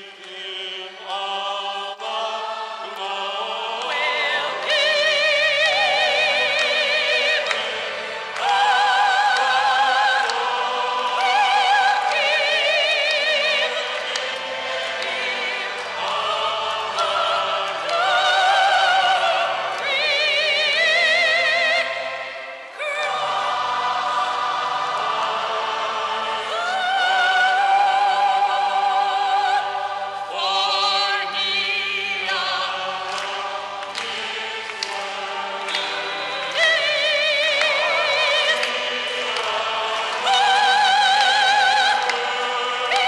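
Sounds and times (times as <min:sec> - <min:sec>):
low musical accompaniment: 0:00.0 - 0:43.0
soprano singing with vibrato: 0:00.0 - 0:43.0.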